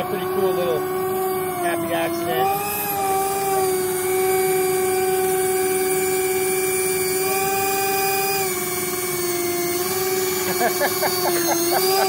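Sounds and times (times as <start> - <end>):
electric ducted fans whining: 0.0 - 12.0.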